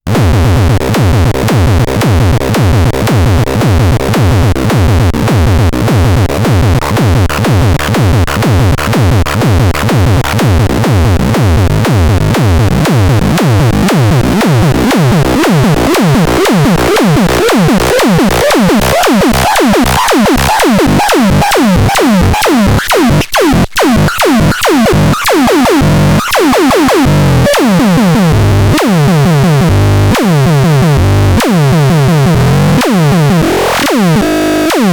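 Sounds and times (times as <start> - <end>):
loud electronic music: 0.1 - 34.9.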